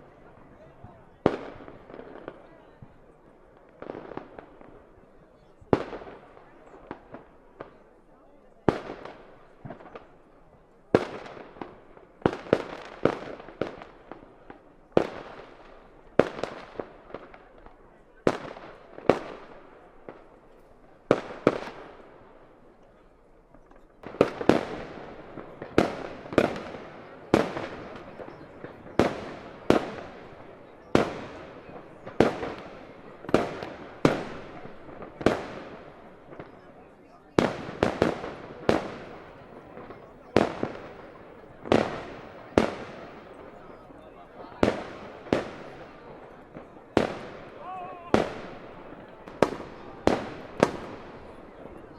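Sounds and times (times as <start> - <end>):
fireworks exploding: 0.0 - 8.0, 8.6 - 51.9.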